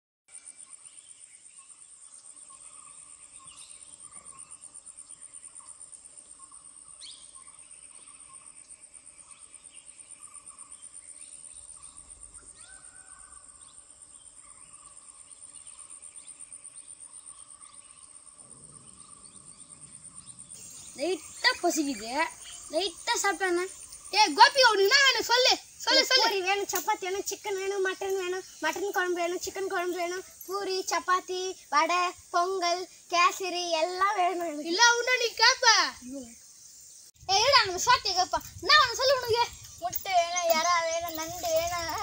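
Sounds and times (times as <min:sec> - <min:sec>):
short insect chirps: 0:00.3 - 0:42.0
insects trilling: 0:00.4 - 0:42.0.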